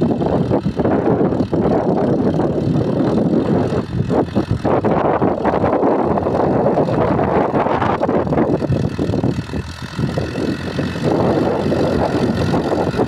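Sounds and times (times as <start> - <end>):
tractor diesel engine under load: 0.0 - 13.0
wind buffeting microphone: 0.0 - 13.0.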